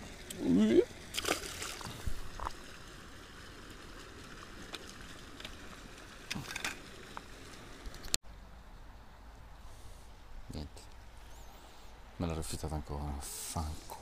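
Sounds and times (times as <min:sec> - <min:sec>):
low hiss: 0:01.7 - 0:14.0.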